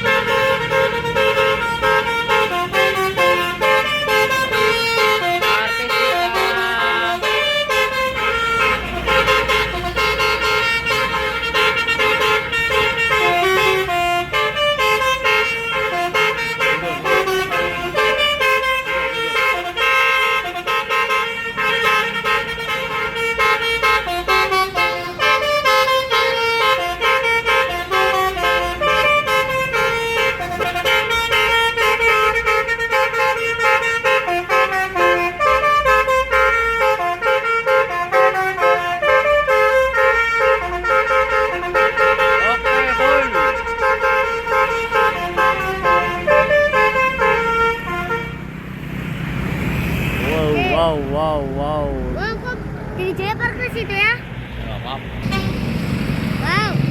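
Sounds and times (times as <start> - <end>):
bus horn playing a melody: 0.0 - 48.5, 50.0 - 52.3, 55.2 - 55.8.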